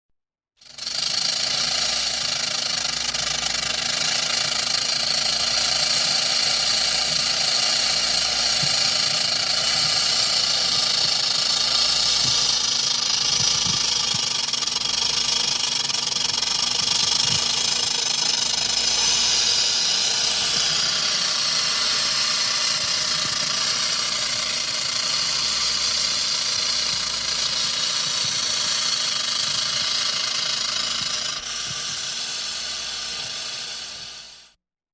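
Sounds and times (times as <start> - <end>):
rattlesnake tail rattle buzz: 0.6 - 34.6.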